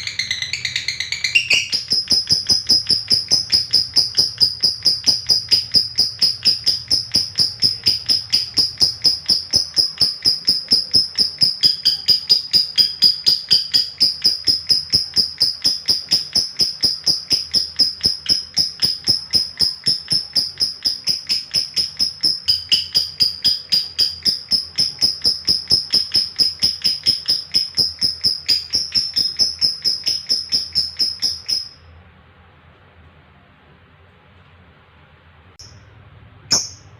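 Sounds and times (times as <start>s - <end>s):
lovebird high-pitched trill: 0.0s - 31.9s, 35.6s - 35.9s, 36.5s - 36.9s.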